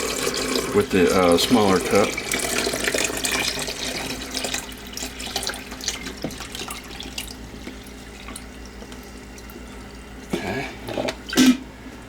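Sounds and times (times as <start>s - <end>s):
water pouring into coffee maker: 0.0s - 11.6s.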